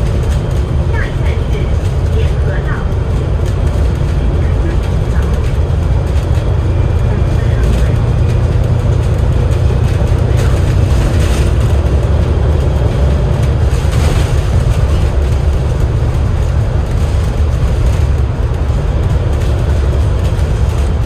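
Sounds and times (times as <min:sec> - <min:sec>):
bus diesel engine rumble: 0:00.0 - 0:21.0
light rattles: 0:00.0 - 0:21.0
road noise: 0:00.0 - 0:21.0.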